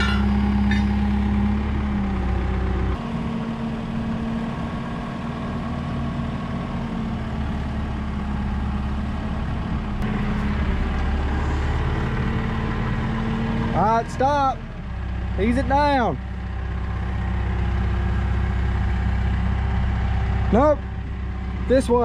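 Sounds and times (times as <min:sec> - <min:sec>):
lifting machine engine running: 0:00.0 - 0:22.0.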